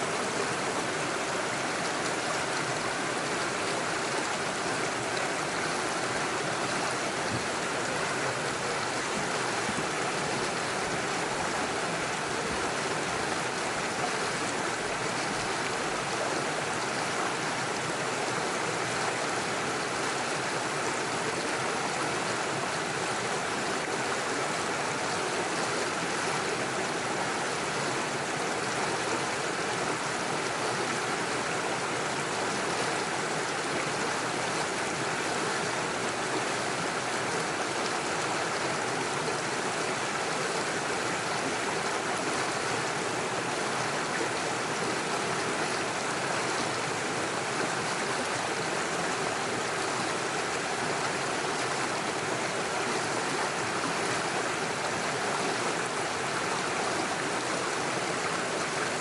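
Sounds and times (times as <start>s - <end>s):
stream splashing over stones: 0.0s - 59.0s.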